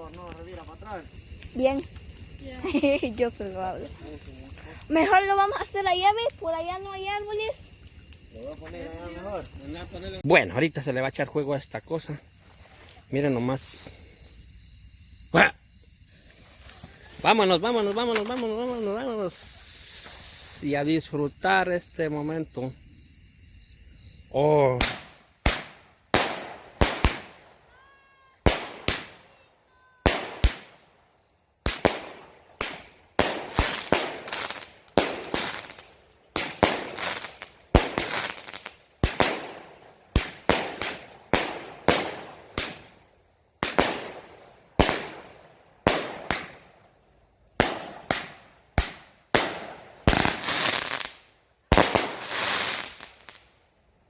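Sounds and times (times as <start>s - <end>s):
firecrackers banging and crackling: 0.0s - 11.3s, 16.1s - 22.1s, 24.5s - 27.8s, 28.4s - 30.9s, 31.6s - 43.0s, 43.6s - 46.8s, 47.6s - 53.5s.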